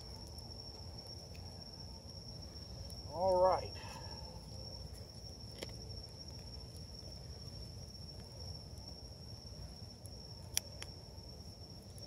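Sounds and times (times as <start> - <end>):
crickets droning: 0.0 - 12.0.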